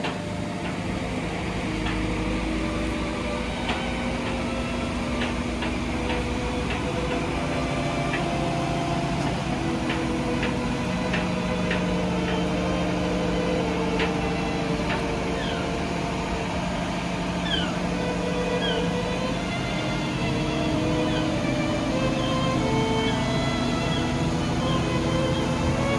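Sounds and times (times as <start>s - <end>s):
diesel engines running: 0.0s - 25.9s.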